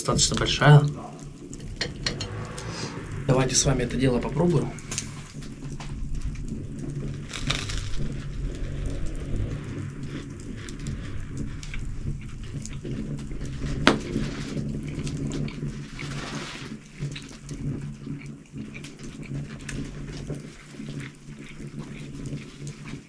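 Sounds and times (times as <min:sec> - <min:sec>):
steady low hum: 0:00.0 - 0:22.4.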